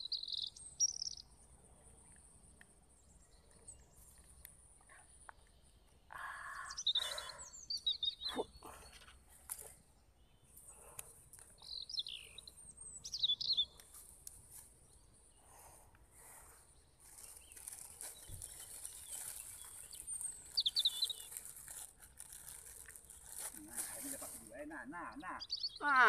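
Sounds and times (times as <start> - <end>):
birds warbling chirps: 0.0 - 14.0, 14.8 - 26.0.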